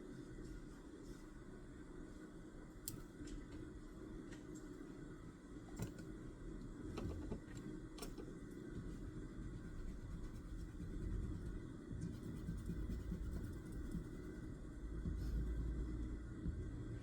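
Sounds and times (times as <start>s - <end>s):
low room rumble: 0.0s - 17.0s.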